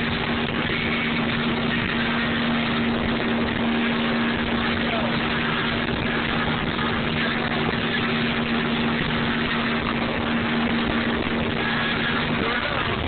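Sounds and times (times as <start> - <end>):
motorboat engine hum: 0.0 - 13.0
water noise: 0.0 - 13.0
wind rushing: 0.0 - 13.0.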